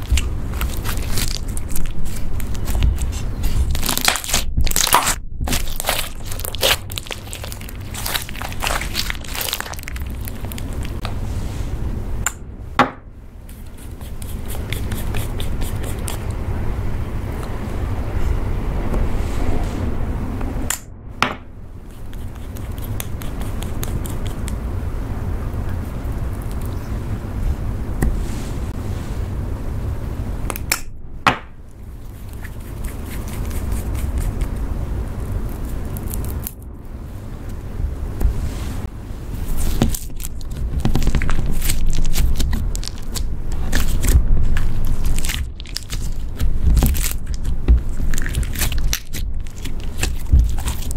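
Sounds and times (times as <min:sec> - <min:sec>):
steady low rumble: 0:00.0 - 0:50.9.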